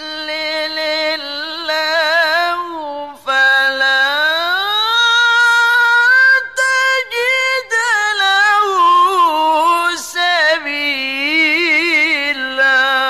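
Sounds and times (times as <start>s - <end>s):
man reciting in melismatic chant: 0.0s - 13.0s.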